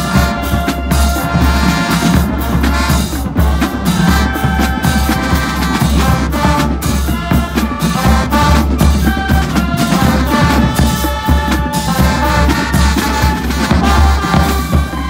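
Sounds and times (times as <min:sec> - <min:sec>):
loud music with drums and bass: 0:00.0 - 0:15.0.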